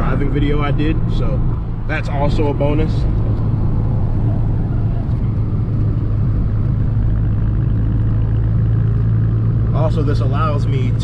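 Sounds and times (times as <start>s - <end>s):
car engine and exhaust cruising: 0.0s - 11.0s.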